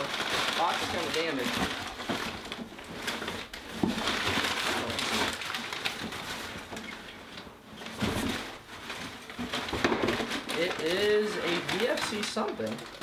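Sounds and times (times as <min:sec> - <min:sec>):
packing paper rustling: 0:00.0 - 0:13.0.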